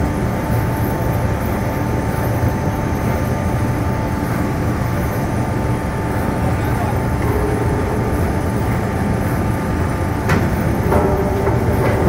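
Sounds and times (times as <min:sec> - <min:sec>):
crane engine and hydraulics rumbling: 0:00.0 - 0:12.0
thin steady whine: 0:00.0 - 0:12.0.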